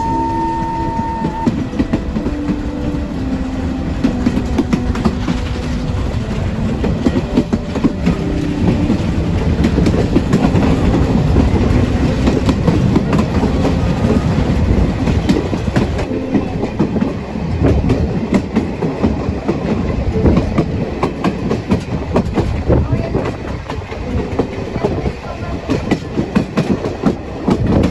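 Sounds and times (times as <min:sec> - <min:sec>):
train wheels rumbling and clacking: 0:00.0 - 0:27.9.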